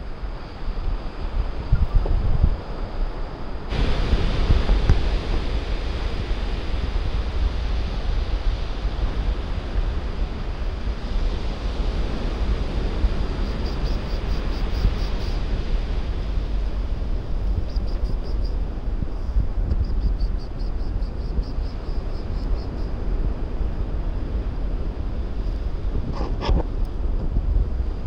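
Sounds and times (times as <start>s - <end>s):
surf rushing: 0.0s - 28.0s
wind rumble on microphone: 0.0s - 28.0s.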